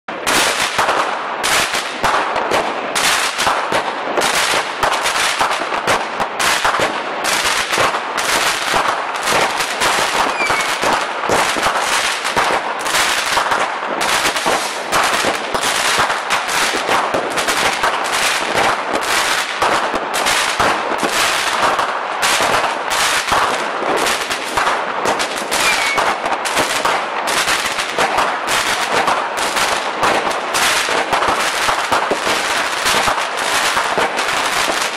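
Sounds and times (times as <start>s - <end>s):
fireworks cracking and banging: 0.0s - 34.9s.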